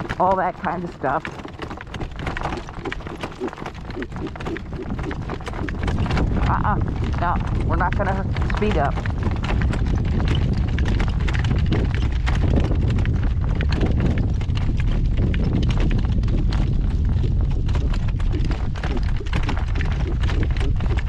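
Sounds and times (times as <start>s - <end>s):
cart jolting over rough ground: 0.0s - 21.0s
horse hooves clattering: 0.0s - 21.0s
wind buffeting microphone: 0.0s - 21.0s.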